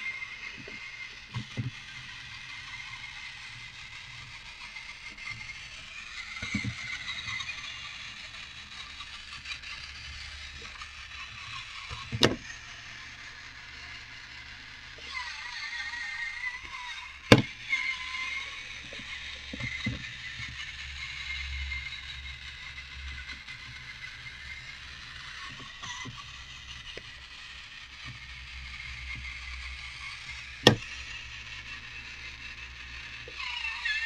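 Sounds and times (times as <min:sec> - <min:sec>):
toy robot motor whirring: 0:00.0 - 0:34.0.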